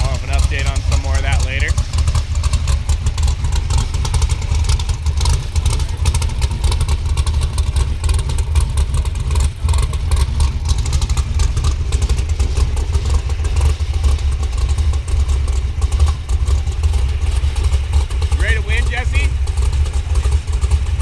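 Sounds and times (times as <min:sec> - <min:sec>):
vehicle engine rumbling and clattering: 0:00.0 - 0:21.0.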